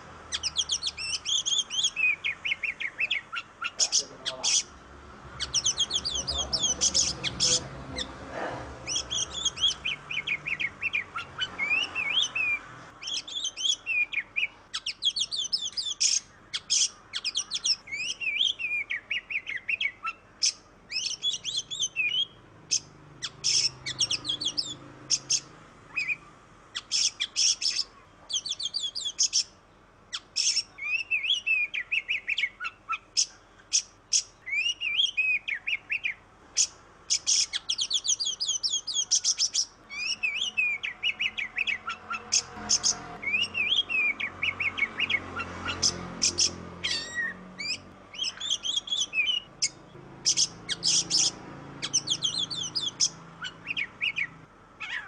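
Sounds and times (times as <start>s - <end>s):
bird singing whistles and chatter: 0.3s - 4.7s, 5.4s - 8.1s, 8.8s - 26.2s, 26.8s - 29.5s, 30.1s - 55.0s.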